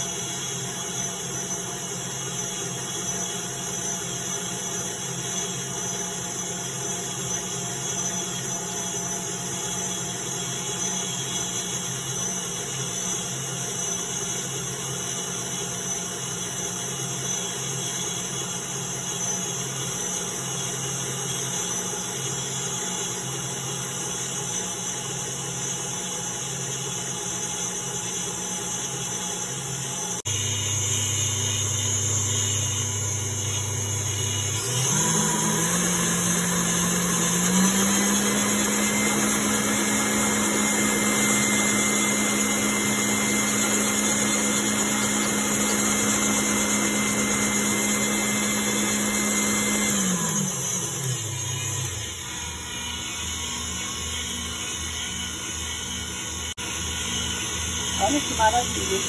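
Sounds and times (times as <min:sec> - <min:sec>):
stand mixer motor running: 0:00.0 - 0:59.0
whisk beating liquid: 0:00.0 - 0:59.0.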